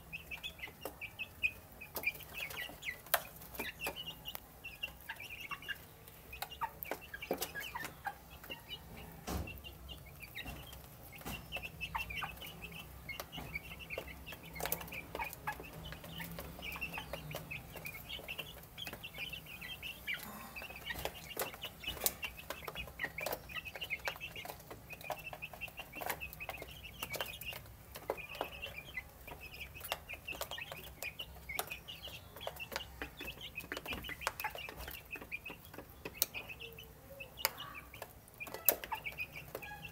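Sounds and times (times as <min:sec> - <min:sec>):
beaks pecking feed: 0:00.0 - 0:39.9
chicks peeping: 0:00.0 - 0:39.9.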